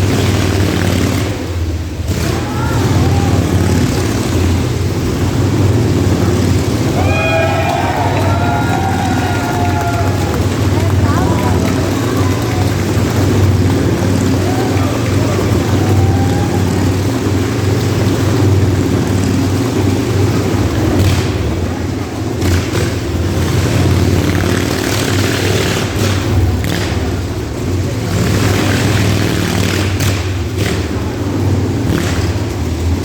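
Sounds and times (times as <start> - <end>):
motorcycle engines droning: 0.0 - 33.0.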